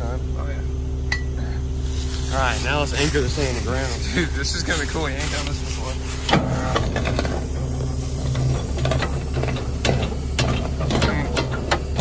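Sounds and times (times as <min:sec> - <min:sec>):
low hum: 0:00.0 - 0:12.0
machine drone: 0:00.0 - 0:12.0.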